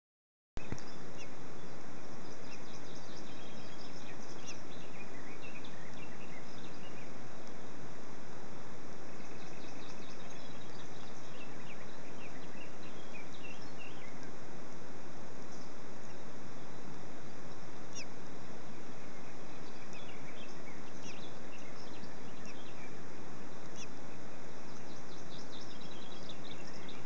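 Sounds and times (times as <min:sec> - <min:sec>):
faint high bird chirps: 0:00.6 - 0:07.8, 0:09.0 - 0:14.4, 0:15.4 - 0:27.0
steady noise: 0:00.6 - 0:27.0.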